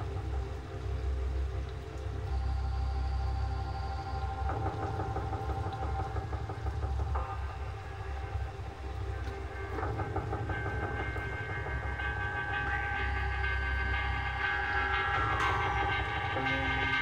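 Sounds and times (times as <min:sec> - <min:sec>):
deep low hum: 0:00.0 - 0:17.0
droning music: 0:00.0 - 0:17.0.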